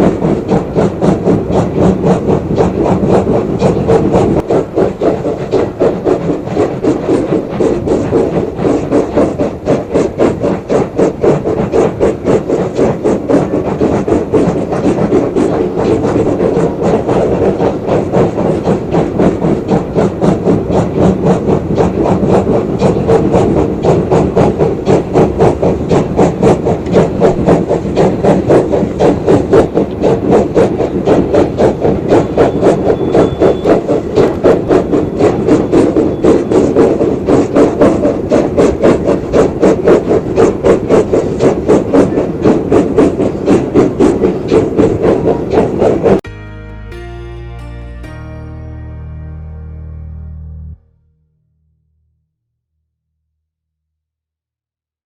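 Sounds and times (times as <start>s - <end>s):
steam locomotive chuffing: 0.0s - 46.2s.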